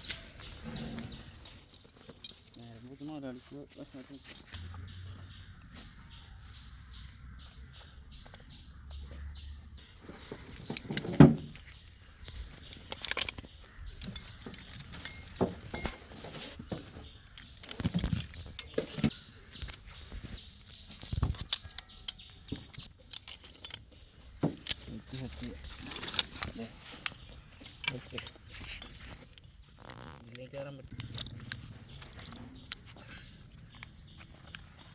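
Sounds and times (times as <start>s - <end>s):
climbing hardware clinking: 0.0s - 4.6s, 10.1s - 34.9s.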